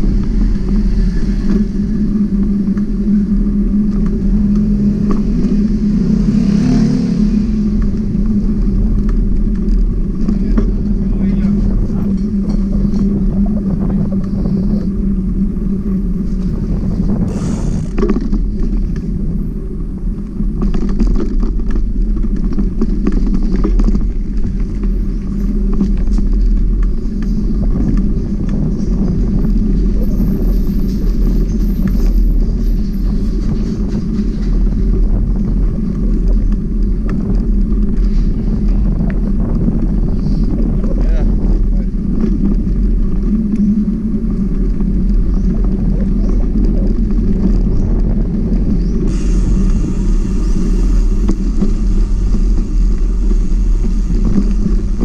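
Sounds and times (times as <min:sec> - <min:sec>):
bicycle tyre rumble on concrete: 0:00.0 - 0:55.0
wind on microphone: 0:00.0 - 0:55.0.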